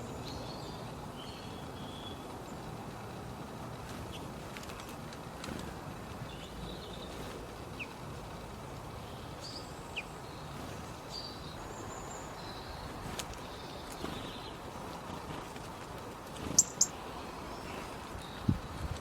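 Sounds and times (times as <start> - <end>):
low background noise: 0.0 - 19.0
small birds chirping: 0.0 - 19.0.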